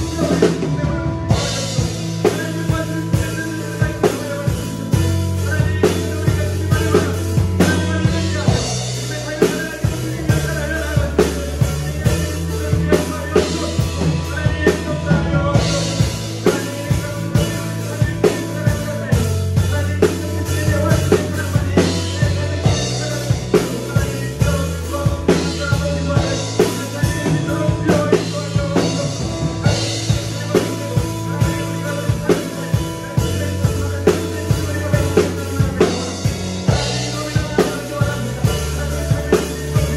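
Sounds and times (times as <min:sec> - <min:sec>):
drum kit playing steady beat: 0:00.0 - 0:39.9
recorded worship song: 0:00.0 - 0:39.9.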